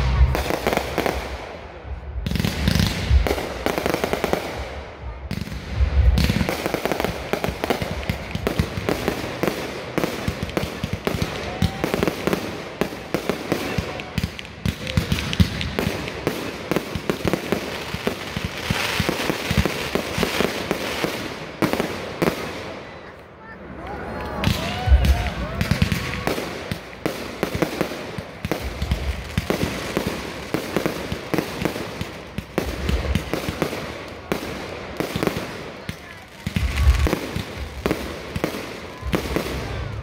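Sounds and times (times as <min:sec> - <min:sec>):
rapid firework bangs and crackle: 0:00.0 - 0:23.2, 0:24.4 - 0:40.0.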